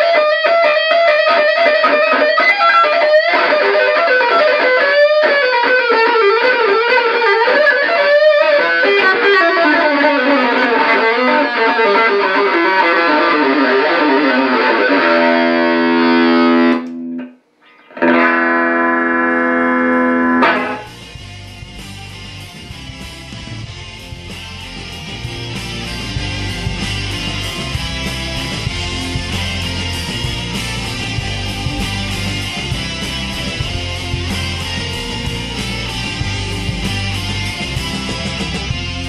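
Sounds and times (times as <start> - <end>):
fuzzy distorted electric guitar: 0.0 - 39.0.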